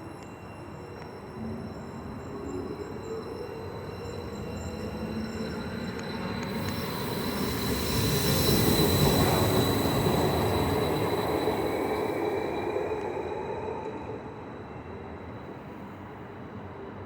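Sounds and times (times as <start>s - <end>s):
passenger train rumbling past: 2.7s - 17.0s.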